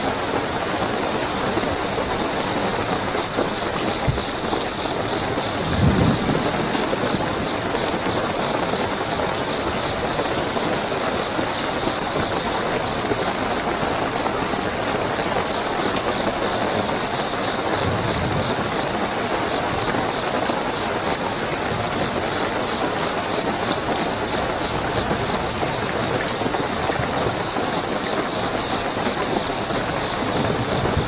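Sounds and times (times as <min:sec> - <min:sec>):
crickets trilling: 0:00.0 - 0:31.0
heavy rainfall: 0:00.0 - 0:31.0.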